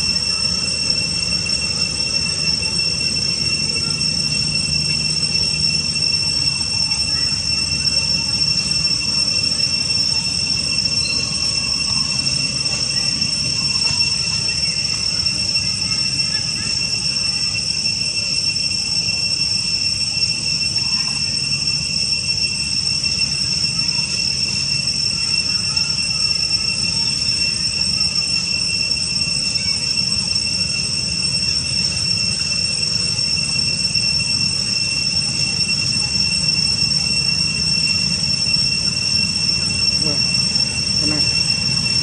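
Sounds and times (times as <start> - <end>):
cicadas droning: 0.0 - 42.0.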